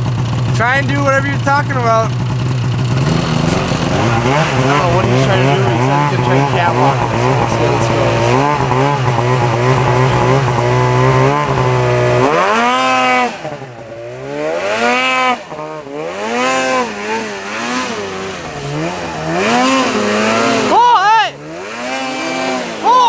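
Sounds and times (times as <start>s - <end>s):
snowmobile engines droning: 0.0s - 23.0s
snowmobile revving: 0.0s - 23.0s.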